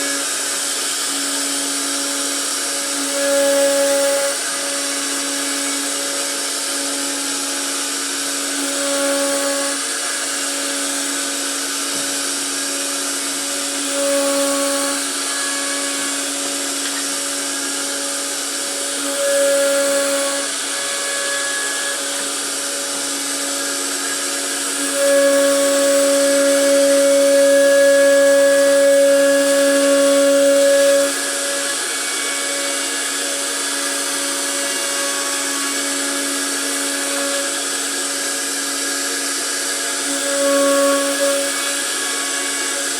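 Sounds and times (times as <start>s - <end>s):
router spindle high-pitched whine: 0.0s - 42.9s.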